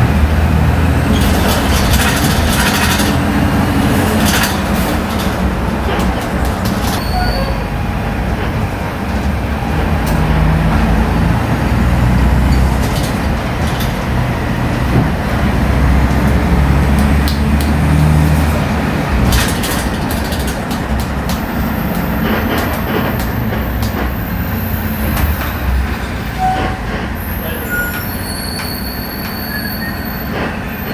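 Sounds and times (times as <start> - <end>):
bus engine rumble: 0.0 - 30.9.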